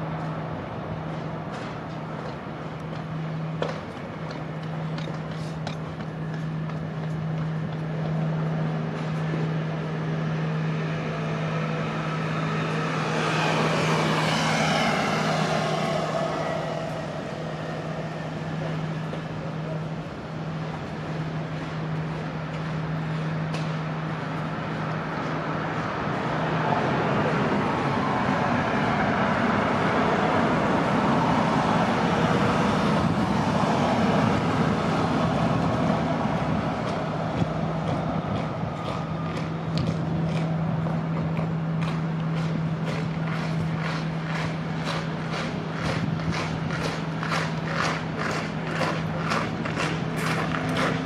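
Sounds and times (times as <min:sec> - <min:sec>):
road traffic hum: 0:00.0 - 0:51.0
vehicle passing: 0:07.2 - 0:51.0.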